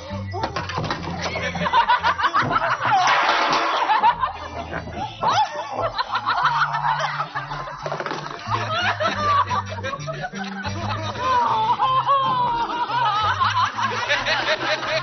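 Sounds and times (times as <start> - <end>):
music with low notes: 0.0 - 15.0
people laughing and squealing: 0.0 - 15.0.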